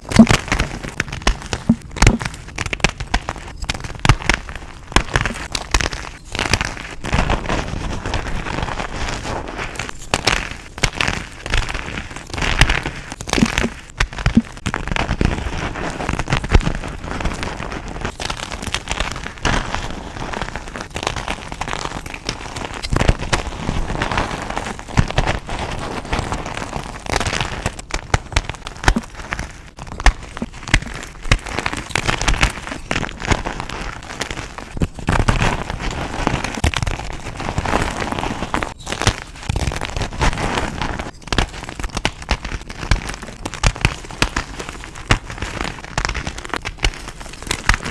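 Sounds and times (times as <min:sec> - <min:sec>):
chalk crunching and cracking: 0:00.0 - 0:47.9.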